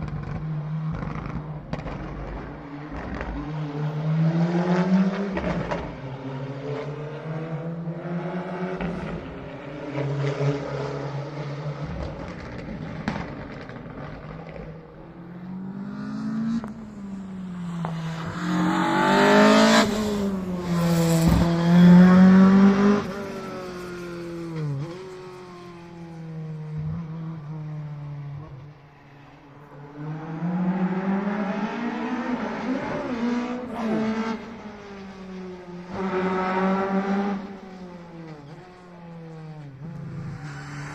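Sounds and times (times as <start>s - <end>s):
rally car engine revving: 0.1s - 25.7s, 29.9s - 40.9s.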